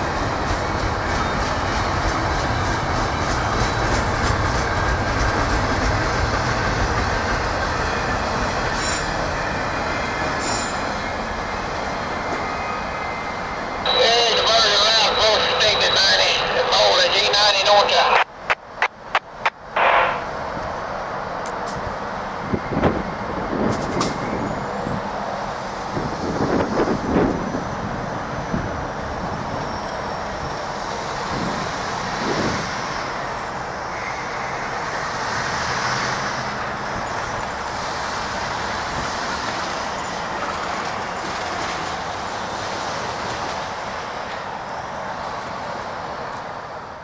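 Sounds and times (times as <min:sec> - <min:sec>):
train wheels on rail: 0:00.0 - 0:13.9, 0:18.0 - 0:47.0.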